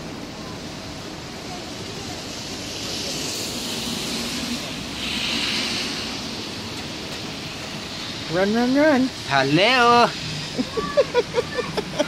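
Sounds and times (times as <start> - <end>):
car tyres hissing on wet road: 0.0 - 12.0
steady rain: 0.0 - 12.0.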